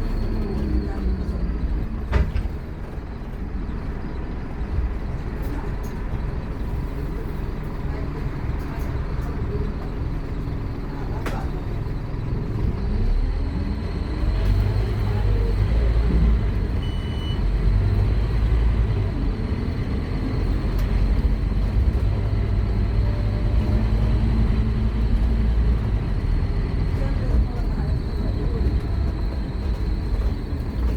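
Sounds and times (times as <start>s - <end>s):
bus diesel engine accelerating: 0.0s - 30.9s.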